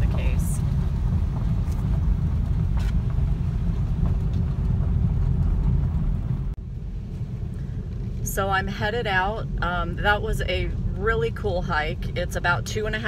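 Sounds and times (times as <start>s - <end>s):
tyres rumbling on gravel: 0.0s - 13.0s.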